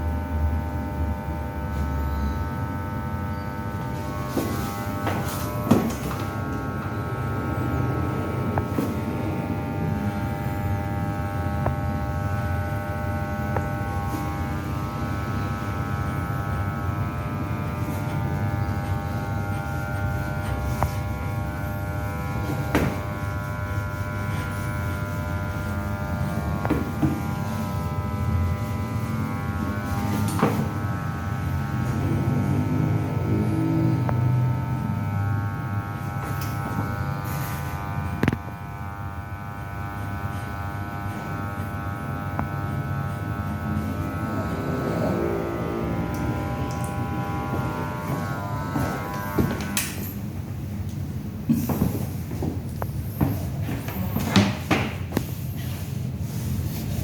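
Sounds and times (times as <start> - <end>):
electric hair clipper buzzing: 0.0 - 57.0.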